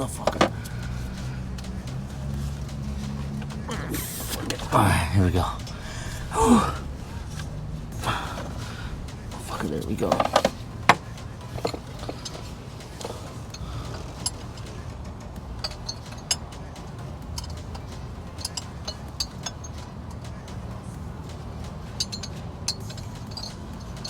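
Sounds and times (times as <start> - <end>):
steady low hum: 0.0 - 21.8
wrench clicking on bolts: 0.0 - 24.0.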